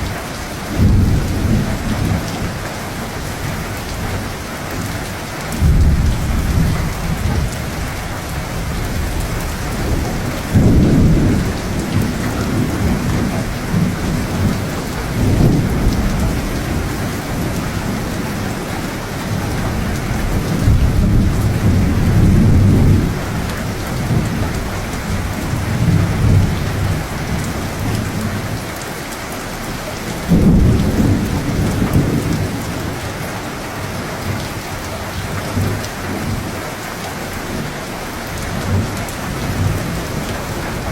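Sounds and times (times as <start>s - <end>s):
thunder rumbling: 0.0s - 28.7s, 29.6s - 36.5s, 37.5s - 40.9s
steady rain falling: 0.0s - 40.9s.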